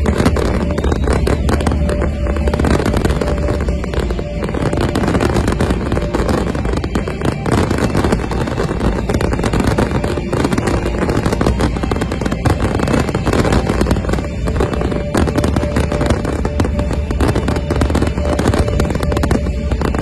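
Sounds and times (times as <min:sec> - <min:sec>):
fireworks bangs and crackles: 0:00.0 - 0:20.0
heavy low rumble: 0:00.0 - 0:20.0.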